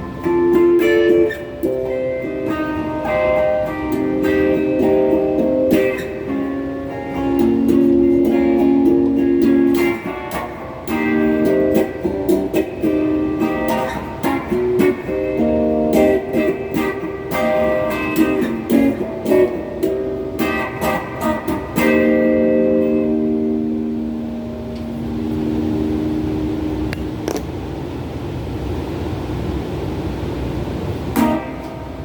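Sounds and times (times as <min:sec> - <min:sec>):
electric guitar strumming chords: 0:00.0 - 0:27.5, 0:31.1 - 0:32.0.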